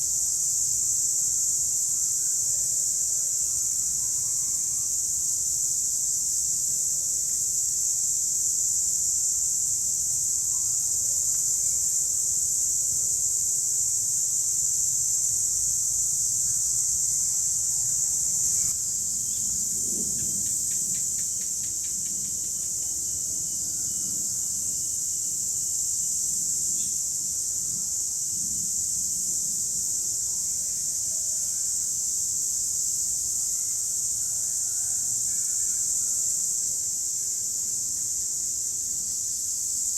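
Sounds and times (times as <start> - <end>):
cicadas droning in chorus: 0.0 - 39.9.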